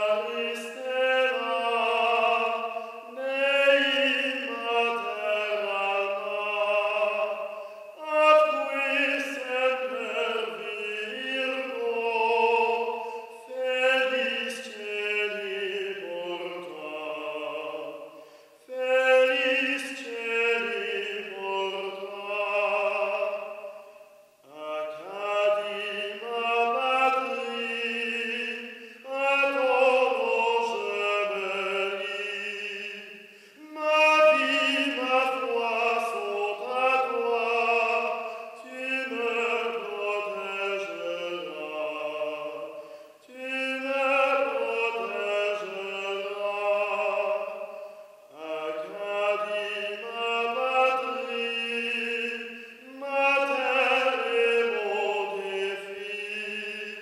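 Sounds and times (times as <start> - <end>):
person singing operatically: 0.0 - 17.9, 18.7 - 23.5, 24.4 - 42.6, 43.2 - 47.6, 48.3 - 57.0.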